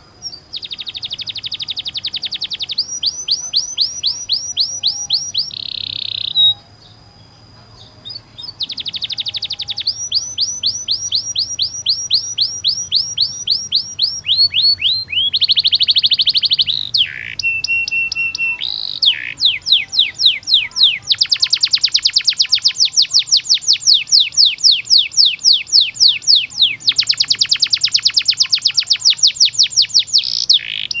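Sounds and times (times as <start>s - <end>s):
canary singing: 0.0s - 31.0s.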